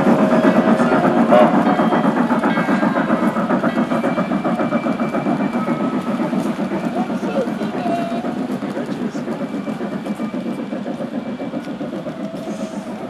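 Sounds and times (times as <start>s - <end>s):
model train wheels clattering on track: 0.0s - 13.0s.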